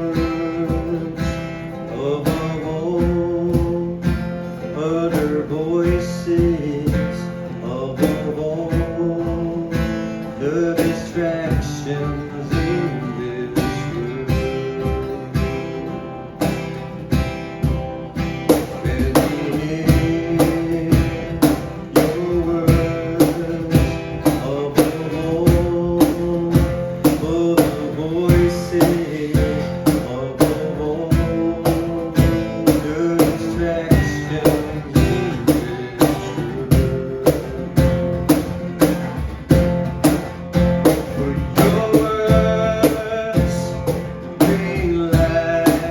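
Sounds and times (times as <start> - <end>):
drum beat: 0.0 - 1.7, 2.3 - 4.4, 10.8 - 13.0, 13.6 - 45.9
acoustic guitar strumming: 0.0 - 45.9.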